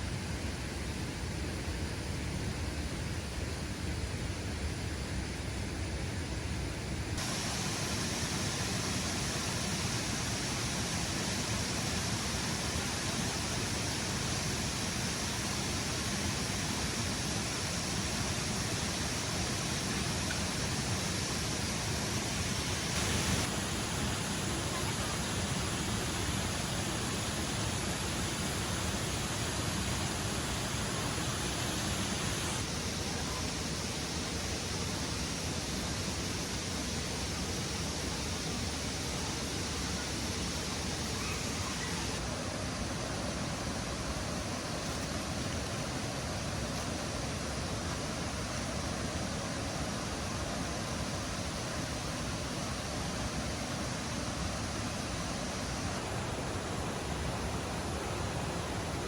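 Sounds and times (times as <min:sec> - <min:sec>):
waterfall rushing: 0:07.2 - 0:59.0.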